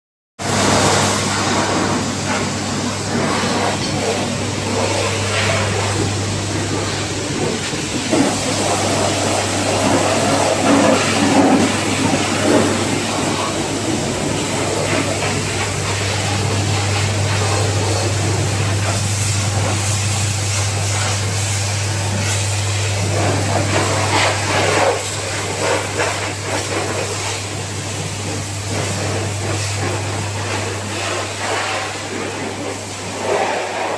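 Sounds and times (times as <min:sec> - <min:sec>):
pressure washer motor hum: 0:00.4 - 0:33.9
water spray hissing: 0:00.4 - 0:33.9.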